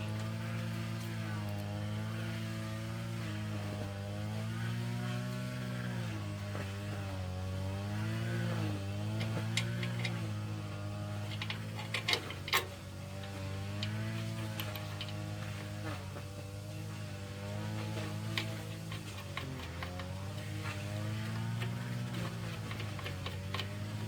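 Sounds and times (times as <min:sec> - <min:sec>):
motor running: 0:00.0 - 0:24.0.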